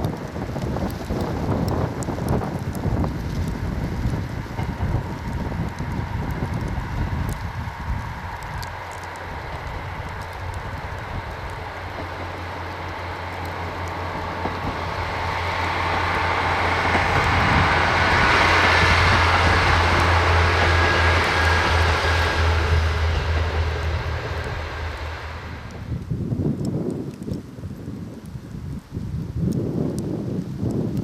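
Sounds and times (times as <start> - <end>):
diesel train approaching: 0.0 - 26.7.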